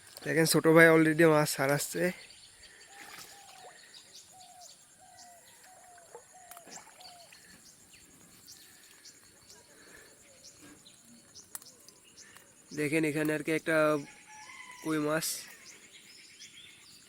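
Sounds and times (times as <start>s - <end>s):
birds high chirps: 1.3s - 17.0s.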